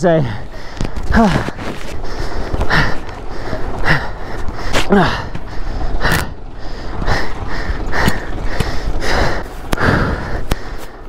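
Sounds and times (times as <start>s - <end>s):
person breathing hard and fast: 0.1s - 11.0s.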